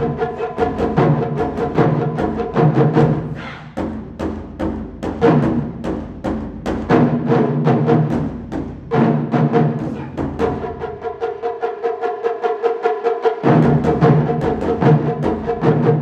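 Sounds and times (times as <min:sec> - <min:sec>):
taiko drums in fast rhythm: 0:00.0 - 0:16.0.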